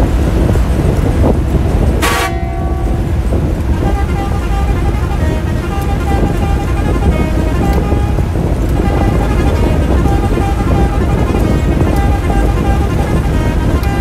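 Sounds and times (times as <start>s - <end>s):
bus engine rumble: 0.0s - 14.0s
steady pitched tones: 0.0s - 14.0s
bus horn blast: 1.5s - 14.0s.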